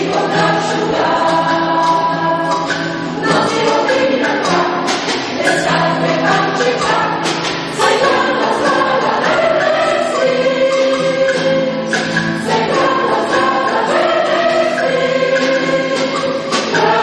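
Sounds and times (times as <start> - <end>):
choir singing in harmony: 0.0 - 17.0.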